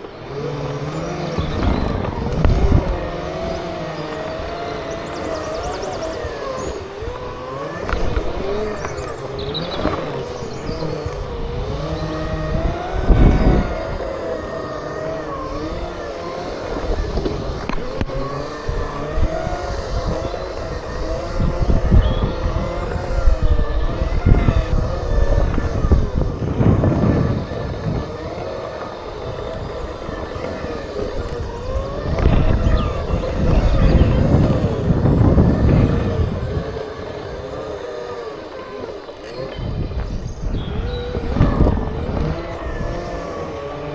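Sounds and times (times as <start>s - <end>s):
electric motors whining: 0.0s - 43.9s
wind gust on microphone: 0.0s - 43.9s.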